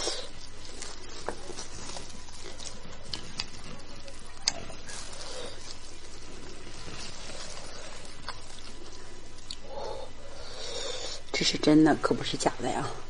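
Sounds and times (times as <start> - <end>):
wet chewing and sucking: 0.0 - 11.4
steady hiss: 0.0 - 13.0.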